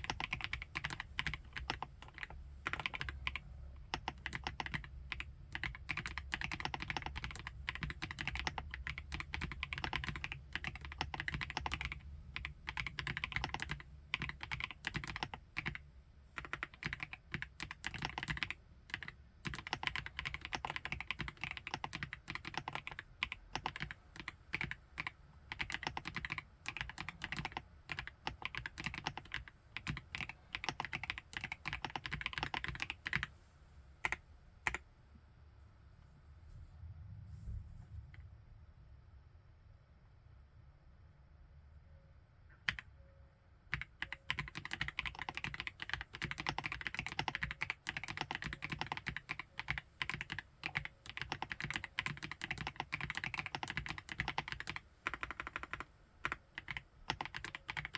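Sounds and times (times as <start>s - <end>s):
fast keyboard typing: 0.0s - 33.3s, 34.0s - 34.8s, 43.7s - 57.9s.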